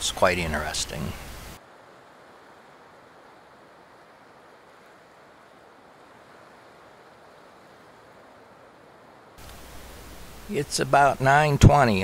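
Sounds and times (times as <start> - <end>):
distant ocean surf hissing: 0.0 - 12.0.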